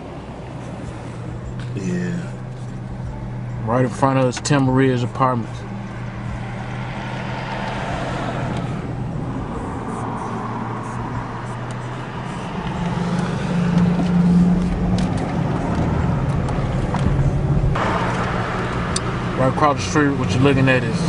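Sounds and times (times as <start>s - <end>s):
car engine hum: 0.0s - 21.0s
road noise: 0.0s - 21.0s.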